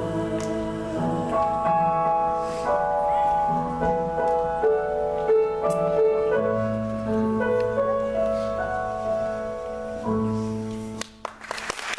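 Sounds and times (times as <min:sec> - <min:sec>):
slow piano music: 0:00.0 - 0:11.9.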